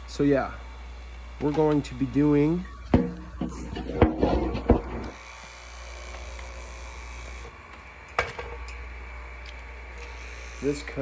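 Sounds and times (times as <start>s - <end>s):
high-pitched grinder motor whir: 0.0s - 11.0s.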